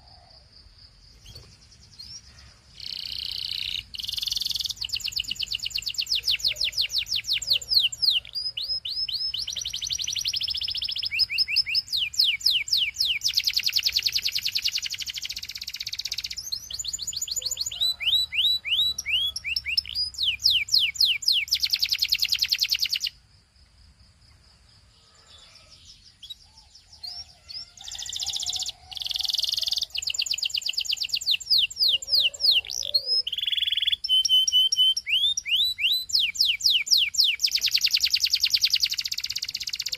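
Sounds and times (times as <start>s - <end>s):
canary singing trills: 1.1s - 23.2s, 24.3s - 39.9s.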